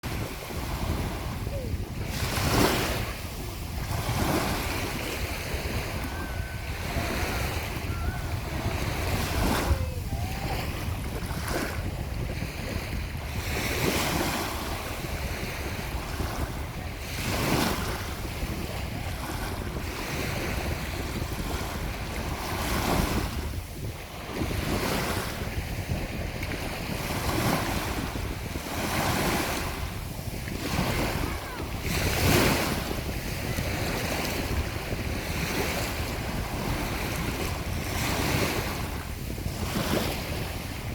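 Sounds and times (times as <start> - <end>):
sea waves breaking on shore: 0.0 - 40.9
wind buffeting microphone: 0.0 - 40.9.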